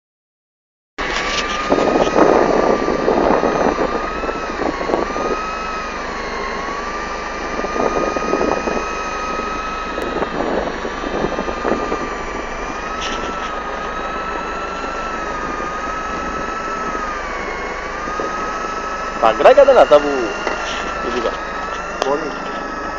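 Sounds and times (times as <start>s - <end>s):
motor whining: 1.0s - 22.9s.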